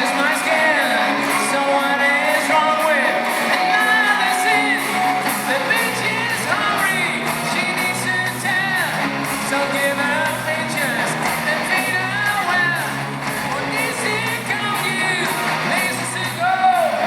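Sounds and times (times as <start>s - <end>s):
live hard rock band: 0.0s - 17.0s
person singing: 0.0s - 17.0s.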